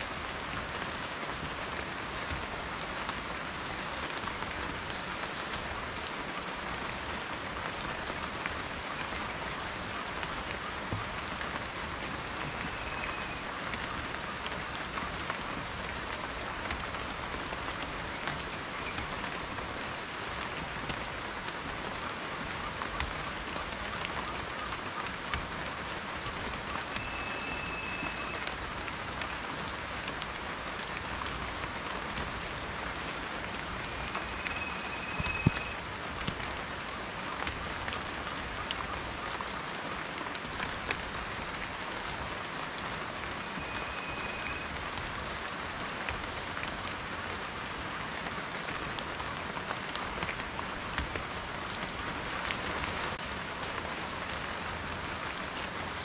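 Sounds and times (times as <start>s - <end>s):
steady rain with ticking drops: 0.0s - 56.0s.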